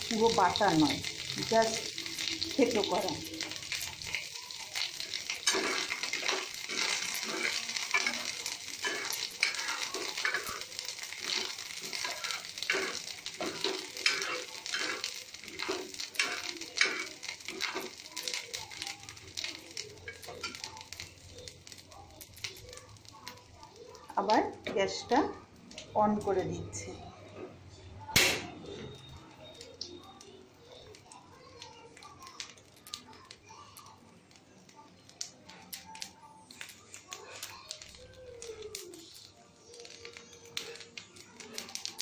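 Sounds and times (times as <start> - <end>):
spices sizzling in oil: 0.0 - 42.0.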